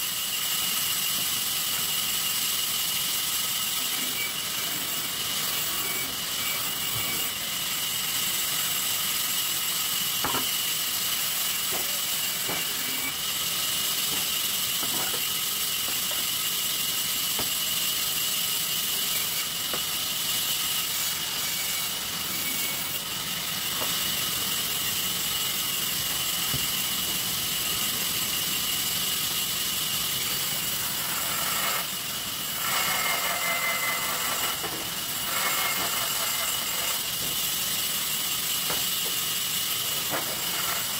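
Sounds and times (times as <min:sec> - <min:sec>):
table saw whining: 0:00.0 - 0:40.9.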